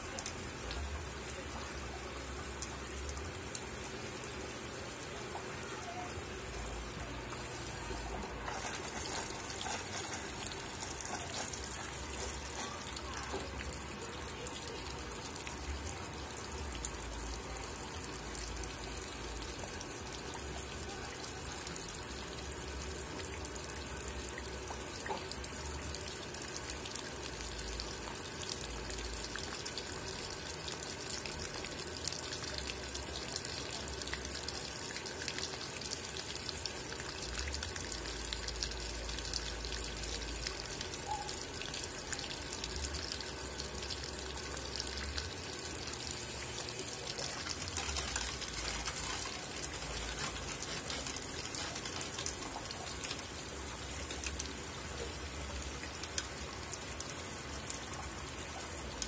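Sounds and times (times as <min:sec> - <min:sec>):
water pouring into washing machine: 0:06.2 - 0:59.0.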